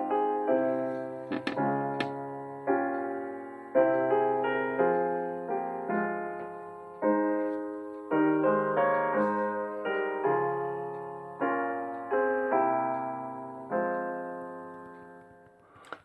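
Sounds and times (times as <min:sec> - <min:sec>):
slow gentle piano chords: 0:00.0 - 0:16.0.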